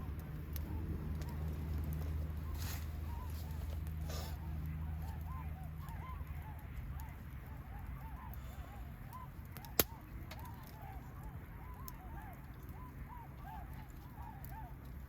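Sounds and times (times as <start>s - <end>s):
bonfire burning: 0.0s - 15.0s
wood popping in fire: 0.0s - 15.0s.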